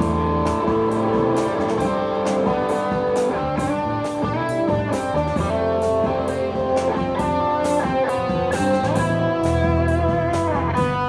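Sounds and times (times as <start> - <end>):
held electric guitar notes: 0.0 - 11.0
rock band playing instrumental: 0.0 - 11.0.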